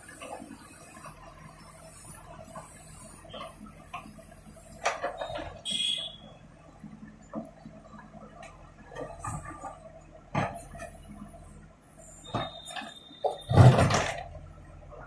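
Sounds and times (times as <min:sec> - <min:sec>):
backhoe engine running: 0:00.0 - 0:15.0.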